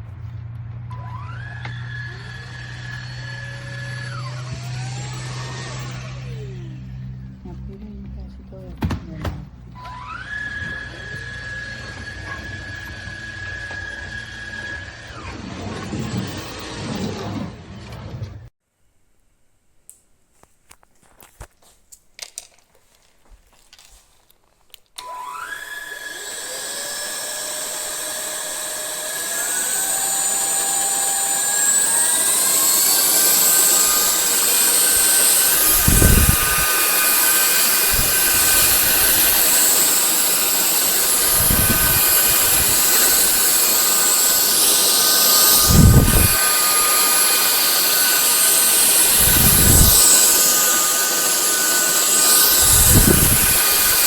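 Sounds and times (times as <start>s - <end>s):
vacuum motor whine: 0.9s - 8.9s, 9.7s - 18.4s, 25.0s - 54.0s.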